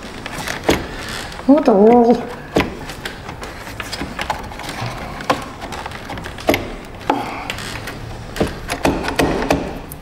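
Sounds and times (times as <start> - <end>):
plastic parts scraping: 0.0 - 10.0.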